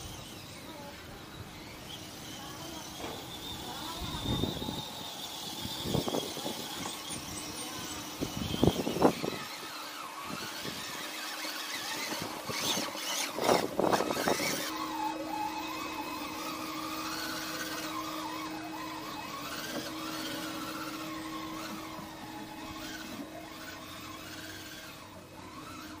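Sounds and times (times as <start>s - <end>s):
steady hum: 0.0s - 26.0s
toy truck motor whining: 0.0s - 26.0s.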